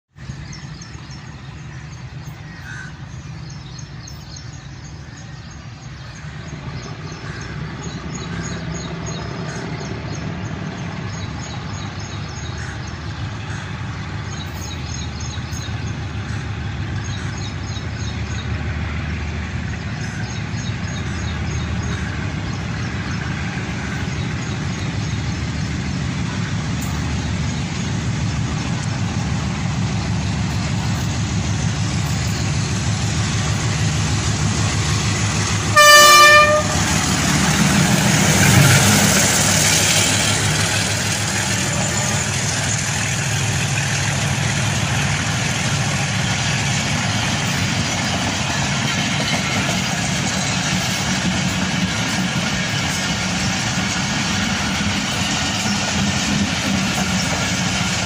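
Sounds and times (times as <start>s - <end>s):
diesel locomotive engine rumble: 0.1s - 58.0s.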